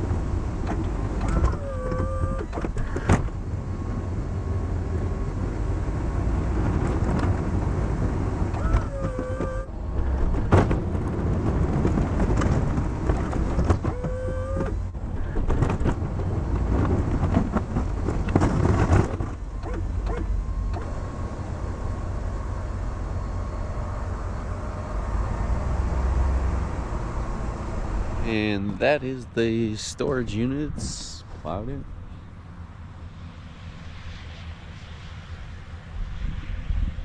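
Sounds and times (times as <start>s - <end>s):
plow scraping: 0.0s - 35.3s
truck engine rumble: 0.0s - 37.0s.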